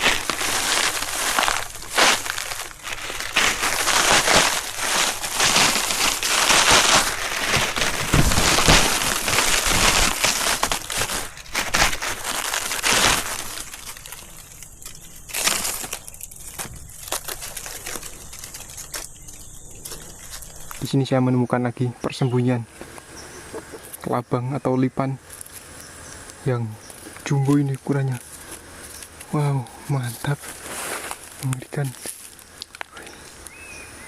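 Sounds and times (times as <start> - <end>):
dry forest debris crunching: 0.0 - 34.0.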